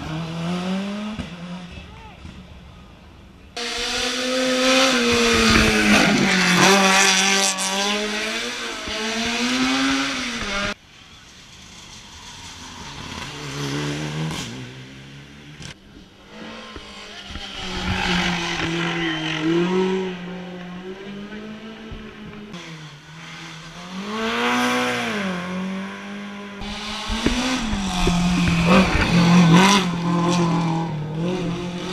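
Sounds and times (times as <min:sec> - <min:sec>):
race car engines revving: 0:00.0 - 0:31.9.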